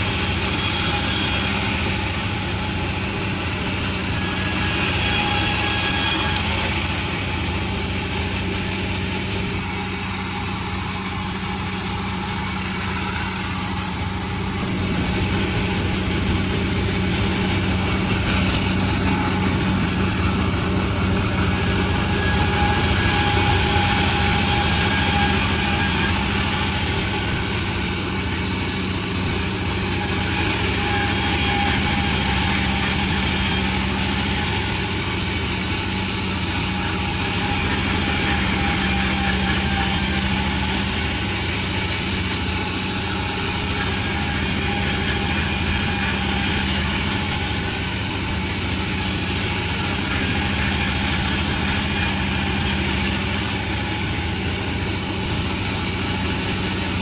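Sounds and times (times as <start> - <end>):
sawmill drone: 0.0 - 57.0.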